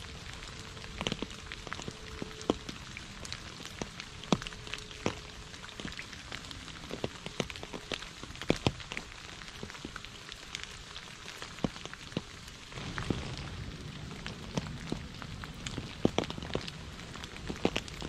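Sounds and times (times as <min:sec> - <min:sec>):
raindrops plopping in puddles: 0:00.0 - 0:18.0
steady hiss of rainfall: 0:00.0 - 0:18.0.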